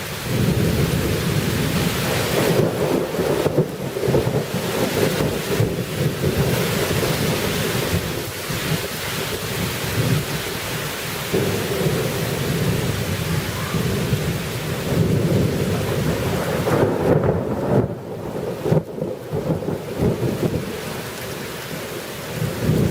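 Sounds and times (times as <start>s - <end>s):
rolling thunder: 0.0s - 21.0s, 22.3s - 22.9s
heavy rain: 0.0s - 22.9s.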